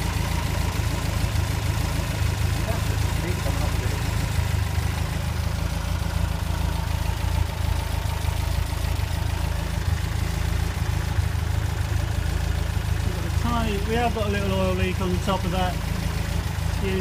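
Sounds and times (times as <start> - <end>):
race car engine idling: 0.0 - 17.0.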